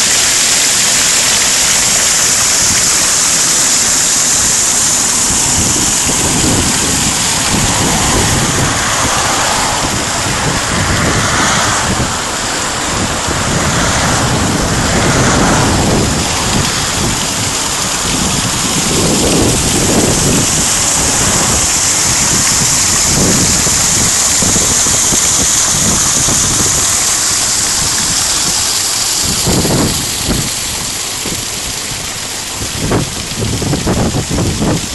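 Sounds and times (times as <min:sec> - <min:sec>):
water pouring over rock: 0:00.0 - 0:34.9
wind buffeting microphone: 0:00.0 - 0:34.9.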